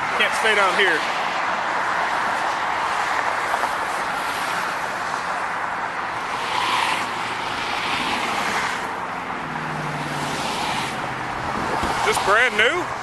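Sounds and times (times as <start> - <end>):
freeway traffic roar: 0.0 - 13.0
vehicles passing: 0.0 - 13.0.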